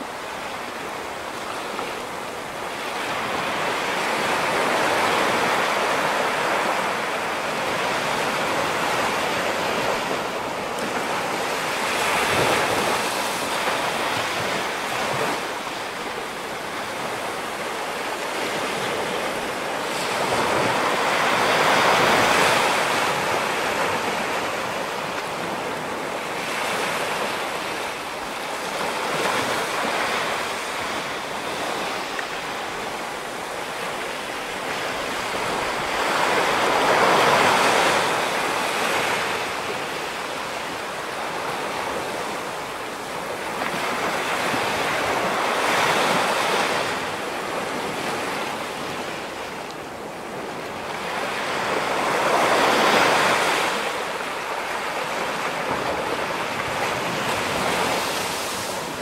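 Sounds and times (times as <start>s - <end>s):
ocean surf breaking on rocks: 0.0s - 59.0s.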